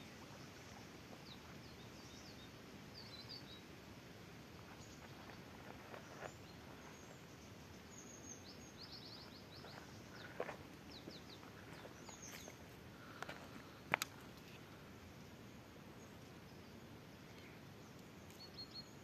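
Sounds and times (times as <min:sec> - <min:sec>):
small bird chirping: 0:00.0 - 0:03.7, 0:04.6 - 0:14.6, 0:15.2 - 0:19.0
outdoor background hiss: 0:00.0 - 0:19.0.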